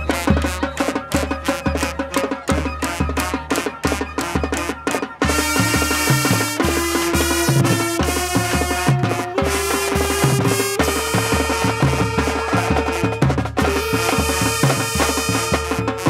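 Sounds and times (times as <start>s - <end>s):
brass and woodwinds chords: 0.0s - 16.0s
marching drumline and bass drums: 0.0s - 16.0s.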